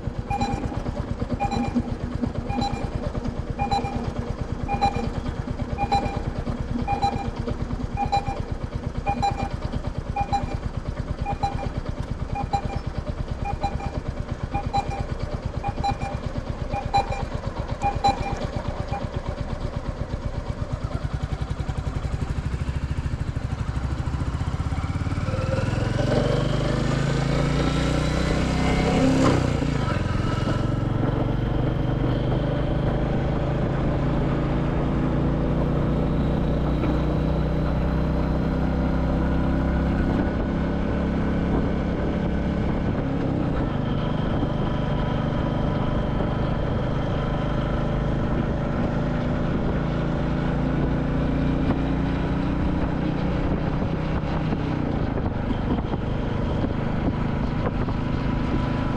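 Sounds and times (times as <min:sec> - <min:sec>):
motorcycle engine on the road: 0:00.0 - 0:58.9.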